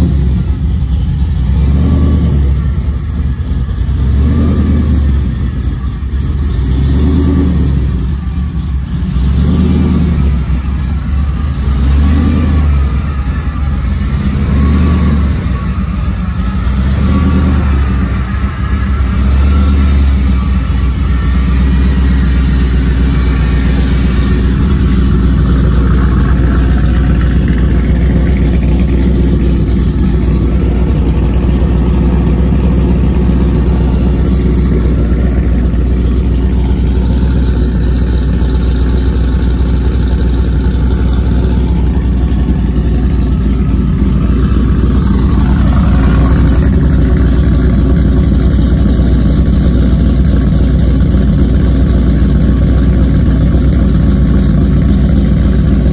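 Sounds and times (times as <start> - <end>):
truck engine idling: 0.0 - 55.9.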